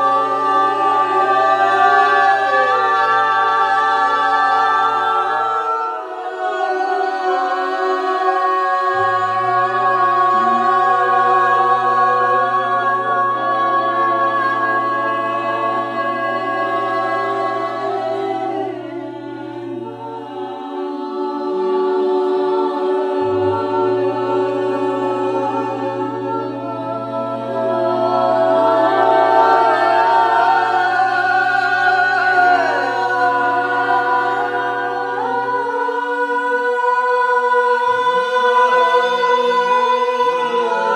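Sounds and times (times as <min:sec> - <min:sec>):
low steady drone: 0:00.0 - 0:40.9
voices singing held tones: 0:00.0 - 0:40.9.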